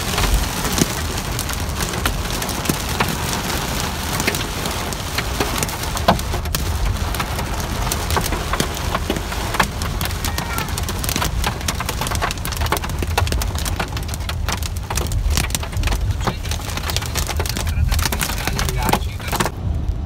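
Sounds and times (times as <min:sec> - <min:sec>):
car rumbling on wet road: 0:00.0 - 0:20.0
rain drops ticking on car: 0:00.0 - 0:20.0.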